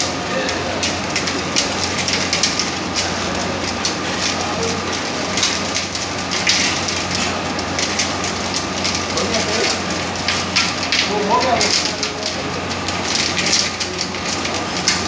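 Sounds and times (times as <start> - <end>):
low electrical hum: 0.0 - 15.0
mixer crackling clatter: 0.0 - 15.0.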